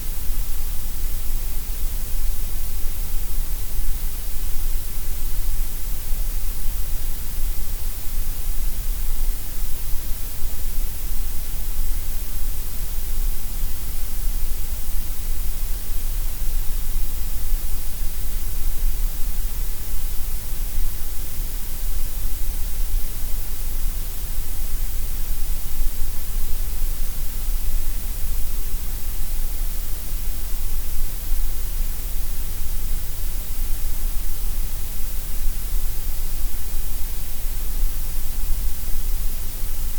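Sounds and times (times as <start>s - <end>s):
gray noise hiss: 0.0s - 39.9s.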